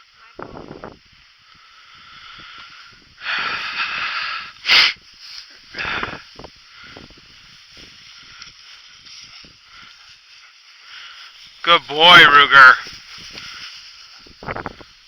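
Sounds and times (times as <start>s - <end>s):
rustling hissing bursts: 0.0s - 15.0s.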